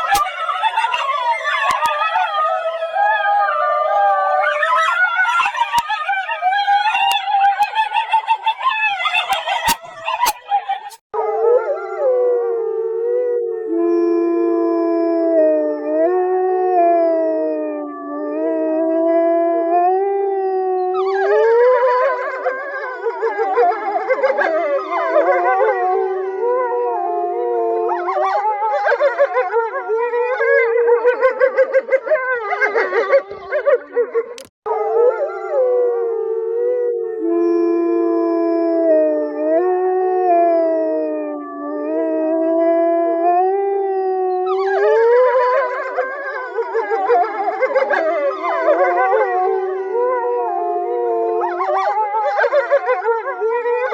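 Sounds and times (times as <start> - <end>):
wolves howling: 0.0 - 53.9.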